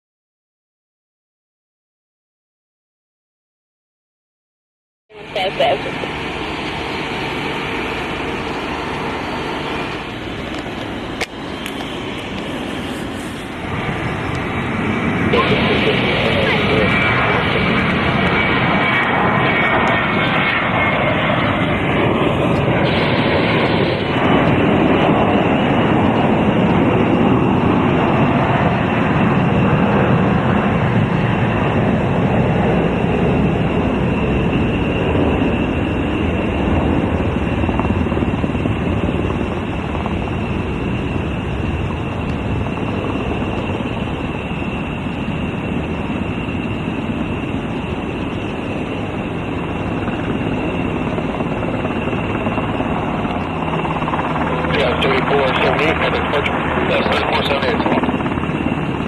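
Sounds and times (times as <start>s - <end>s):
helicopter turbine whine: 5.1s - 59.0s.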